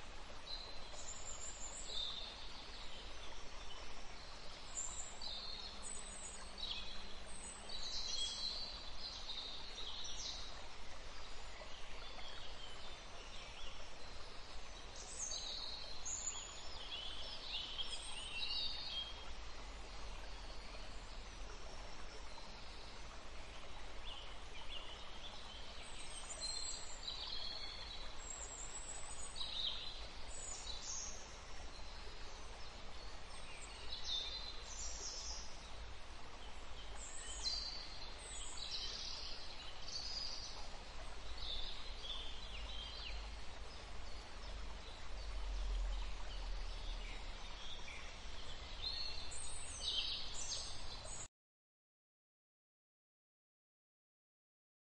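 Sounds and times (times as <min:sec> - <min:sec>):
background hiss: 0:00.0 - 0:51.2.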